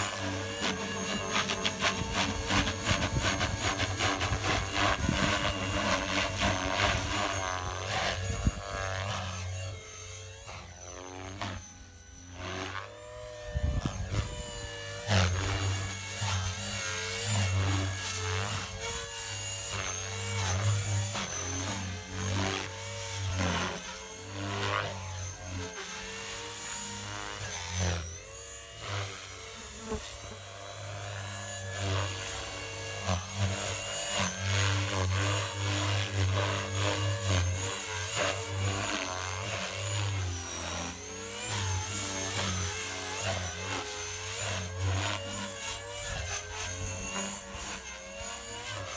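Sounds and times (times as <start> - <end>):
electric motor whining: 0.0 - 48.9
rc helicopter rotor buzzing: 0.0 - 48.9.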